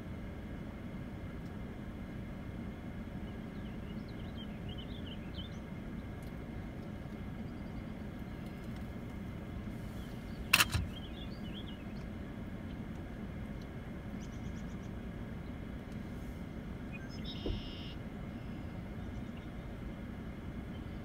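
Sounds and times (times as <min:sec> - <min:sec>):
low outdoor rumble: 0:00.0 - 0:21.0
small birds chirping: 0:03.1 - 0:16.1, 0:16.8 - 0:21.0.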